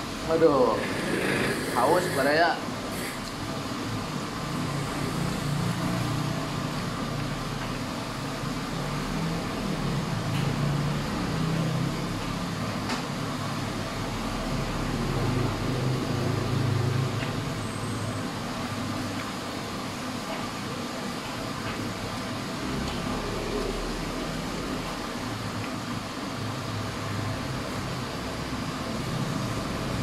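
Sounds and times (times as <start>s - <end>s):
constant hiss: 0.0s - 30.0s.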